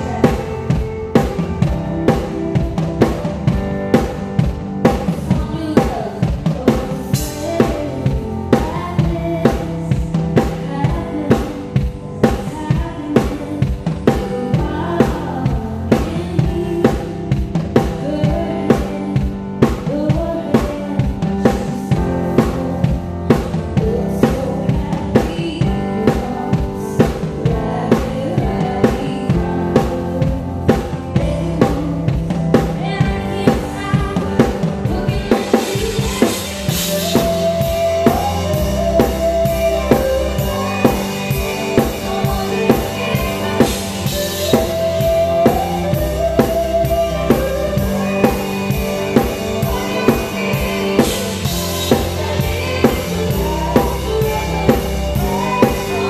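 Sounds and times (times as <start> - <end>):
bass and keys: 0.0 - 56.0
drum kit beat: 0.0 - 56.0.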